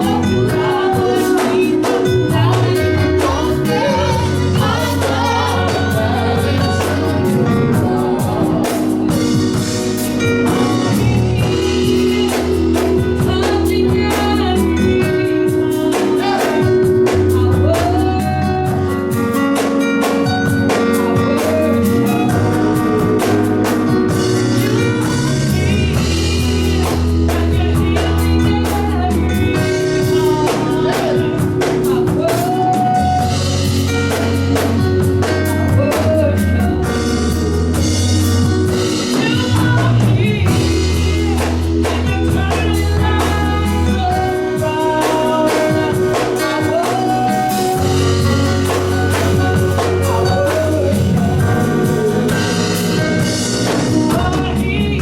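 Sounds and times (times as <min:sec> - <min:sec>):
bass holding long notes: 0:00.0 - 0:55.0
drum kit: 0:00.0 - 0:55.0
gospel singing: 0:00.0 - 0:55.0.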